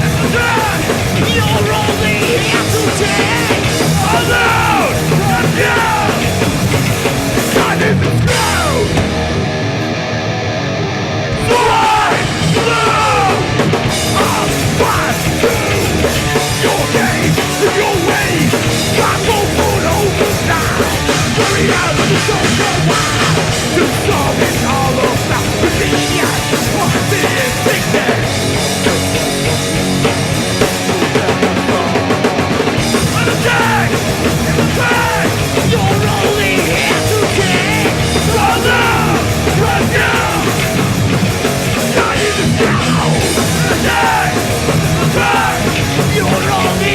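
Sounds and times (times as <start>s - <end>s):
shouted vocals: 0.0s - 9.1s, 11.3s - 29.2s, 32.8s - 46.9s
punk band playing live: 0.0s - 46.9s.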